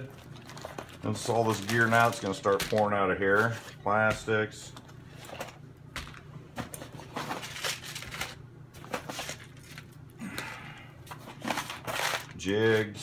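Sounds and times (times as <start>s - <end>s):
plastic packs crinkling: 0.0s - 10.2s, 11.0s - 13.0s.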